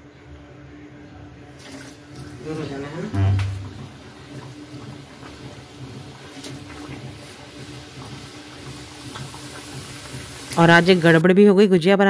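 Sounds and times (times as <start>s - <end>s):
oil sizzling and bubbling: 1.5s - 11.2s.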